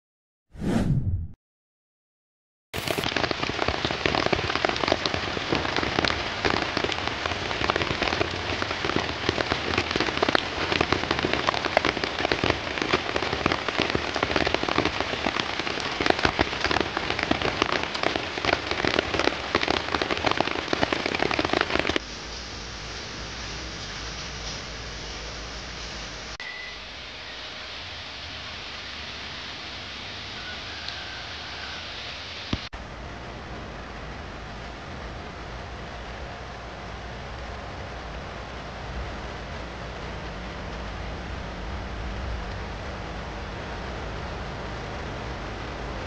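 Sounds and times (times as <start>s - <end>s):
heavy rain falling: 2.8s - 46.0s.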